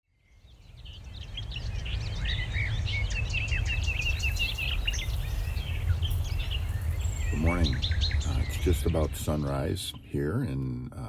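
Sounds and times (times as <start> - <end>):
songbirds chirping and trilling: 0.1 - 11.0.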